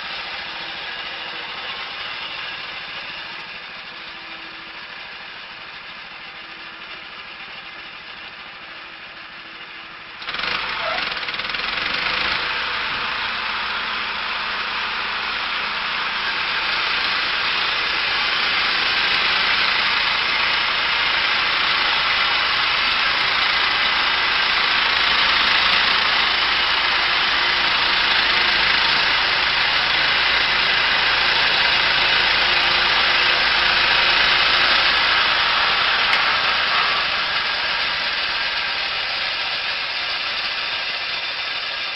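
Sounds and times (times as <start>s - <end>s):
loud dense mechanical noise: 0.0s - 41.9s
machine engine running: 0.0s - 41.9s.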